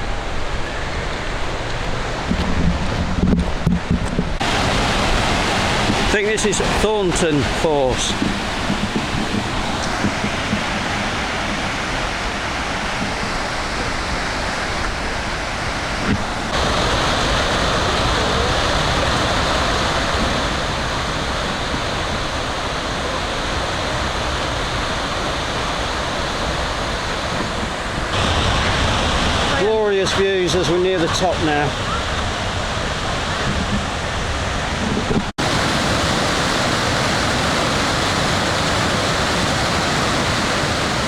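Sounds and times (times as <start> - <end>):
waterfall rushing: 4.0 - 41.0.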